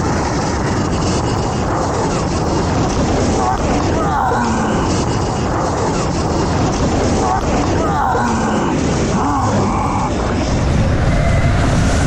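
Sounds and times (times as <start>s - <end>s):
wind rush while riding: 0.0s - 12.0s.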